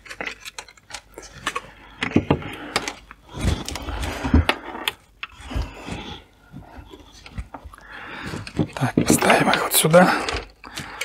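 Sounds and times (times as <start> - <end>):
clicks and knocks of handling: 0.0 - 11.0.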